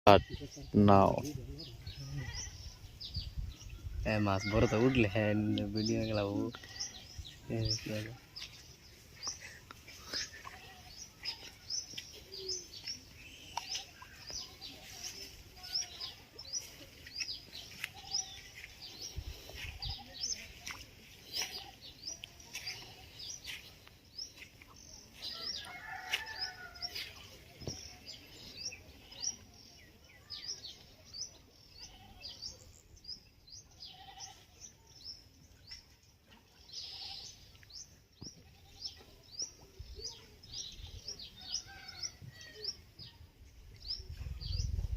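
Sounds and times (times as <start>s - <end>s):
small birds chirping: 0.1s - 4.5s, 5.4s - 44.9s.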